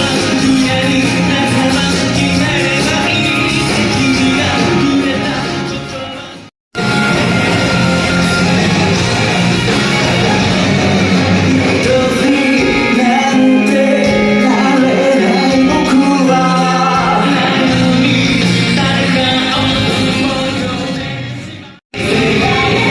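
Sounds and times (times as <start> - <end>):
live rock band playing: 0.0 - 21.3, 22.0 - 22.9
lead singer singing: 0.0 - 22.9.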